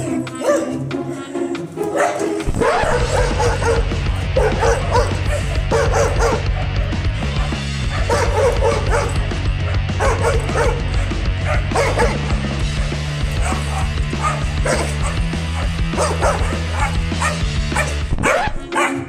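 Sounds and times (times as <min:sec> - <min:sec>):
background music with bass line: 0:00.0 - 0:19.0
dogs barking and yipping: 0:00.3 - 0:00.9, 0:01.6 - 0:19.0.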